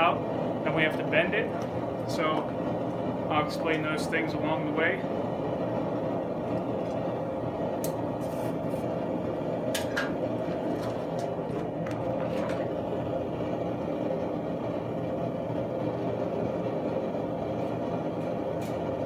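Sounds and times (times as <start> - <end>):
gas forge burner roaring: 0.0 - 19.0.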